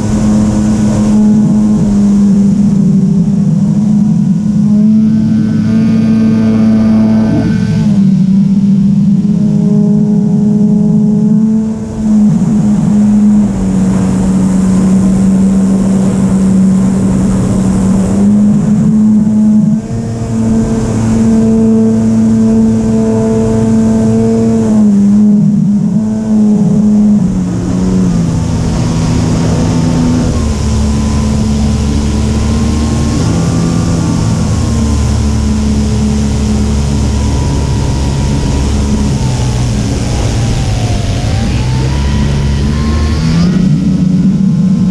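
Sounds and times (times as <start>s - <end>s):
model airplane engine: 0.0s - 44.9s.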